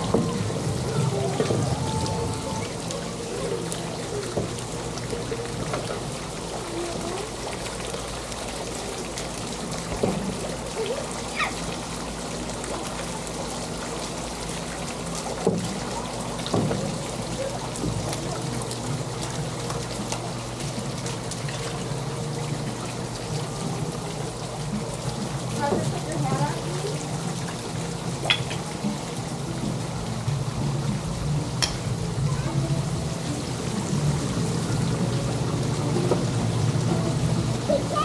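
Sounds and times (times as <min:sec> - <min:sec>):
water trickling and splashing: 0:00.0 - 0:38.0.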